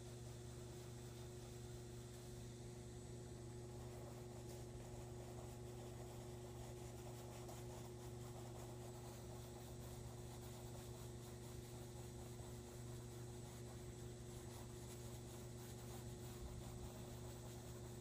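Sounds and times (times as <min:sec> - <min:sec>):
low electrical hum: 0:00.0 - 0:18.0
pencil scratching on paper: 0:03.5 - 0:18.0.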